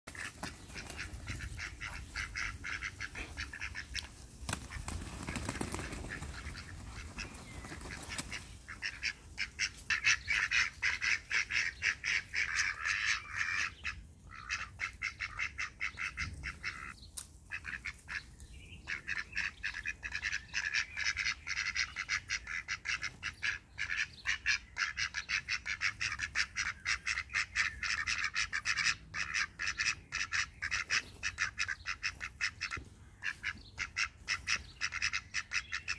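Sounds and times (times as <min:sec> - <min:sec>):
ducks quacking: 0:00.1 - 0:35.9.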